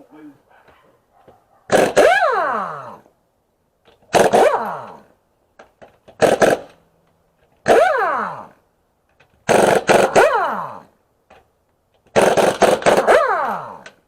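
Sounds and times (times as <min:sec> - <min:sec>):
impact wrench rattling and whining: 0:01.7 - 0:03.0, 0:03.8 - 0:14.0.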